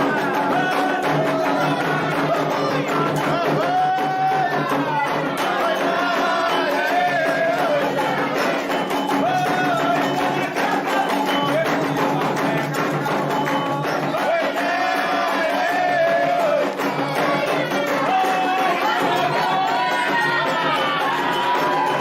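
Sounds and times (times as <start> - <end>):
hand drums playing rhythm: 0.0 - 22.0
sung chant: 0.0 - 22.0.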